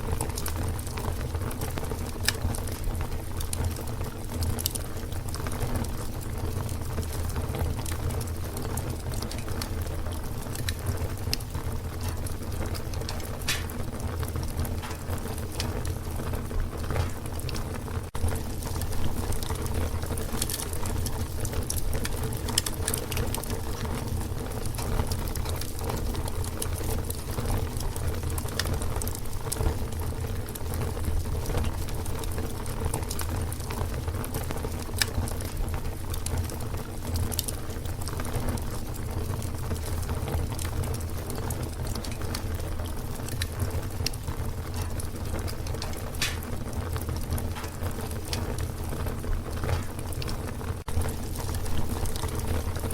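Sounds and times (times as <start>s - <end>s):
fire crackling and rumbling: 0.0s - 52.9s.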